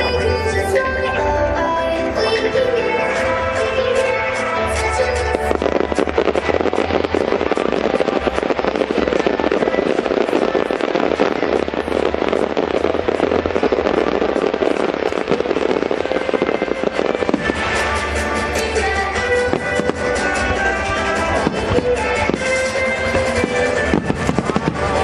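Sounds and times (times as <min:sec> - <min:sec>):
fireworks crackling and popping: 0:02.2 - 0:25.0.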